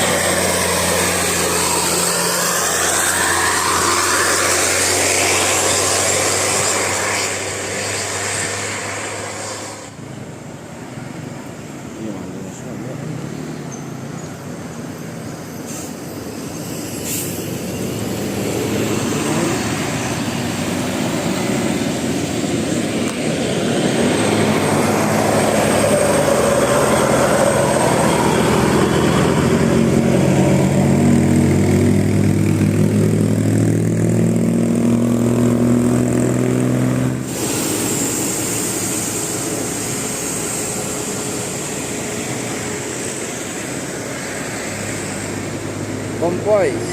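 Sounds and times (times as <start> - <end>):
bus engine passing by: 0.0 - 46.9
traffic noise: 0.0 - 46.9.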